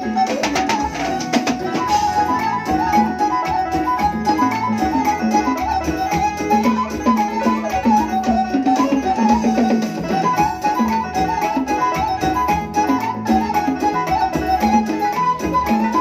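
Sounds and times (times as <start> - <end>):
keyboard high melody: 0.0 - 16.0
pitched drum-like notes: 0.0 - 16.0.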